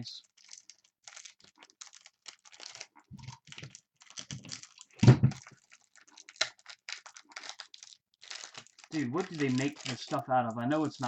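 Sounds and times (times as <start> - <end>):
wrapper clicking and crinkling: 0.1 - 11.0.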